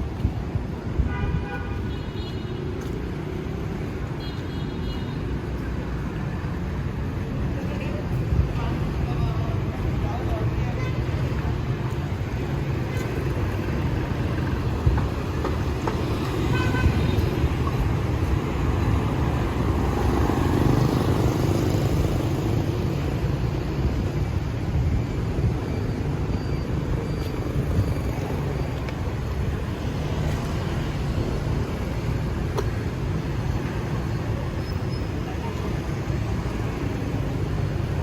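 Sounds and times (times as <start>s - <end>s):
city street traffic: 0.0s - 38.0s.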